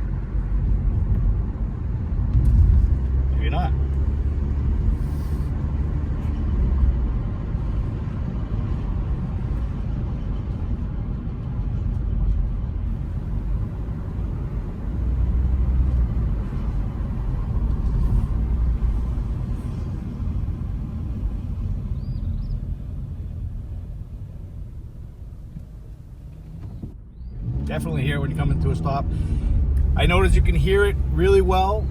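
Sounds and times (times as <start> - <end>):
car tyres and engine rumble: 0.0 - 31.9.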